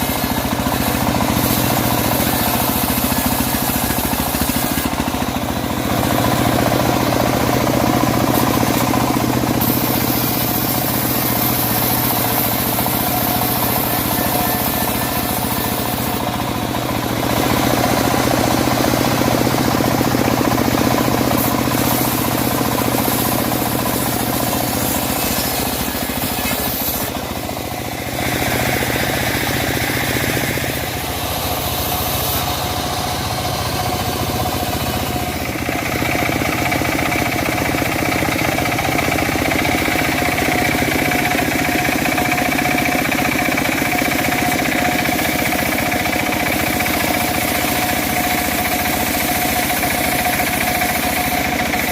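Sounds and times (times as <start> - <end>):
steady high whine: 0.0 - 51.8
band sawmill engine running: 0.0 - 51.9.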